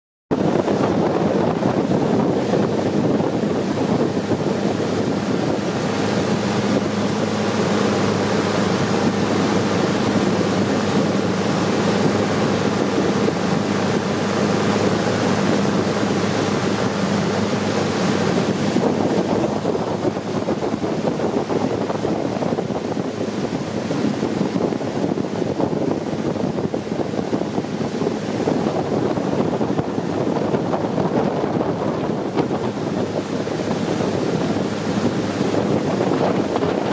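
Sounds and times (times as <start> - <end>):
boat engine running: 0.3 - 36.9
wind rushing over microphone: 0.3 - 36.9.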